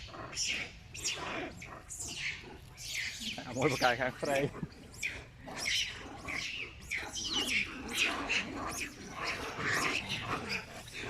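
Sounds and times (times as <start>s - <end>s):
baby monkey crying: 0.0s - 11.0s.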